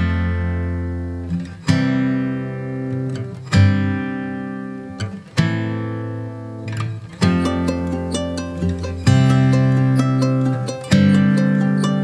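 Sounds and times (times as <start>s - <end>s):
acoustic guitar chords strummed: 0.0s - 12.0s.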